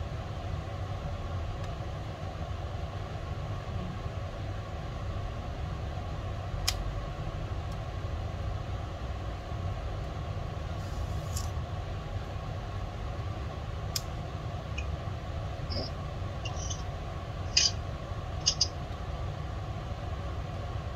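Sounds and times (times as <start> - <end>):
low background hum: 0.0 - 20.9.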